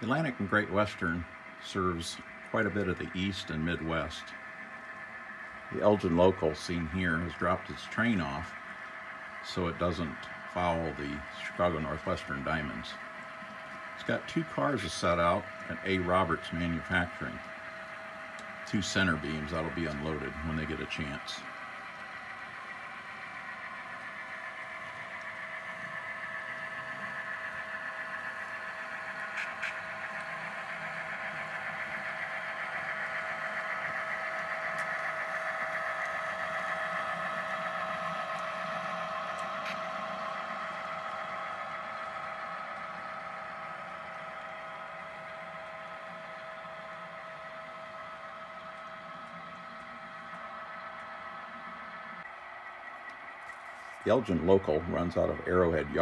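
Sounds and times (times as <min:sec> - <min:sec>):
model train humming and whining: 0:00.0 - 0:56.0.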